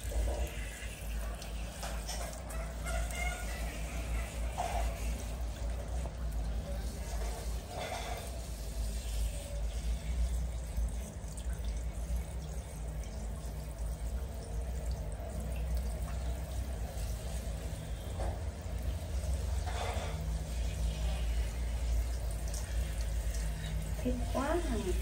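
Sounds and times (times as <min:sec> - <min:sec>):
shower water spraying and splashing: 0:00.0 - 0:25.0.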